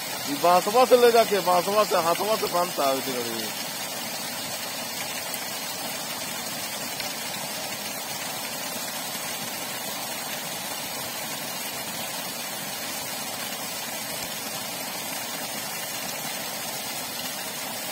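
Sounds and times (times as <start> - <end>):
water gushing from pipe: 0.0 - 17.9
water jet splashing on mud: 0.0 - 17.9.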